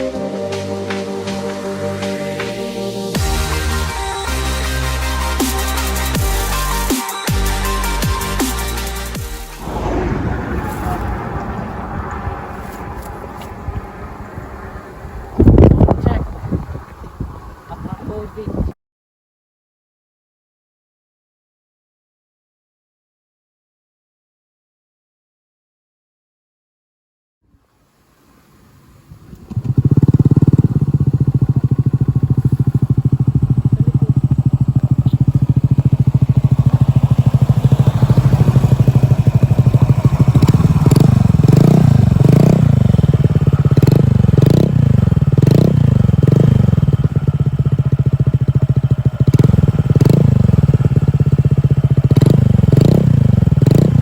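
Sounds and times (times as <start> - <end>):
scooter engine idling and revving: 0.0 - 18.7, 29.2 - 54.0.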